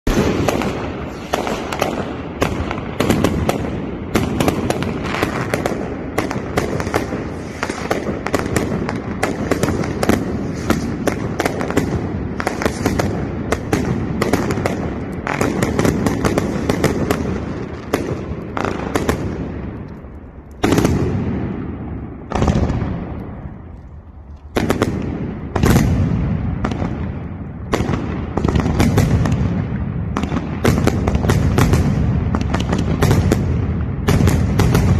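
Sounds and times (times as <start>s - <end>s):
loud firework bangs: 0.0s - 19.8s, 20.6s - 23.4s, 24.5s - 34.9s
fireworks crackling: 0.0s - 34.9s.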